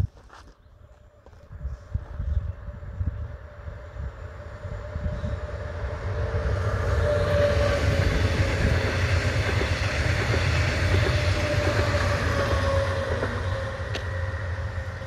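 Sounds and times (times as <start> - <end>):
train wheels rumbling on rails: 1.9 - 15.0.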